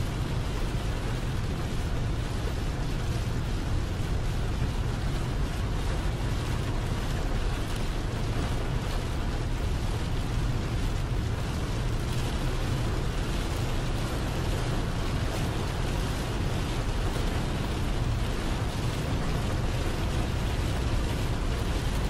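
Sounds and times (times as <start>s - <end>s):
heavy rain drumming on windshield: 0.0s - 22.0s.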